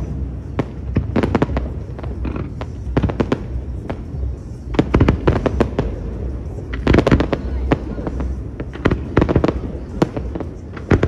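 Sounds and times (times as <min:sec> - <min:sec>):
fireworks popping and crackling: 0:00.0 - 0:11.0
low rumble: 0:00.0 - 0:11.0.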